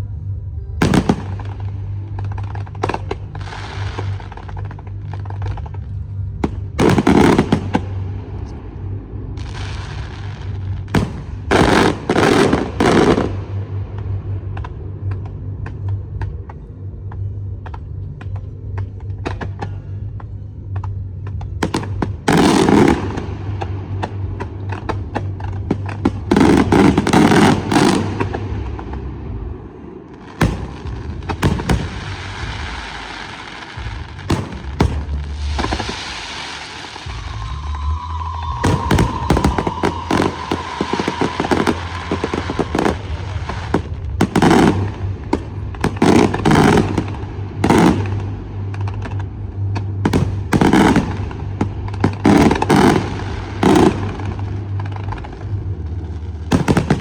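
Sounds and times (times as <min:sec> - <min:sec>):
fireworks hissing crackle: 0:00.8 - 0:14.8, 0:21.6 - 0:57.0
fireworks bangs: 0:00.8 - 0:16.1, 0:21.5 - 0:57.0.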